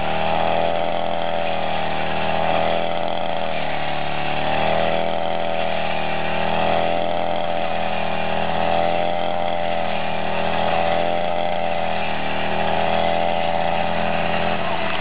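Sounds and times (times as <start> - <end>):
crop cutter engine running: 0.0 - 15.0.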